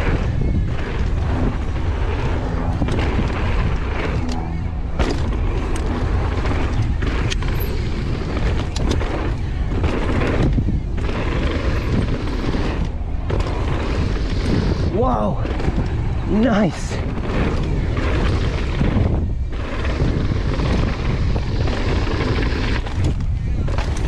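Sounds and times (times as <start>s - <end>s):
bike rattling over bumps: 0.0s - 24.0s
mountain bike rolling on dirt: 0.0s - 24.0s
wind buffeting microphone: 0.0s - 24.0s.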